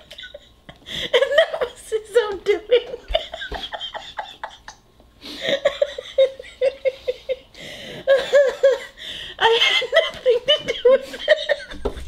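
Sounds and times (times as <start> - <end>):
woman laughing: 0.0 - 4.8, 5.4 - 12.0.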